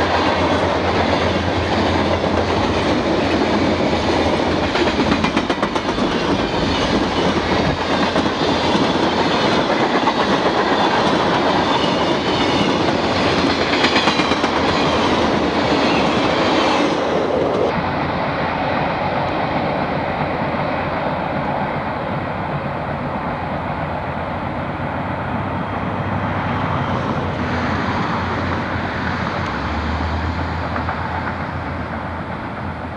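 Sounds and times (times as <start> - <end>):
freight train rumbling past: 0.0 - 32.9.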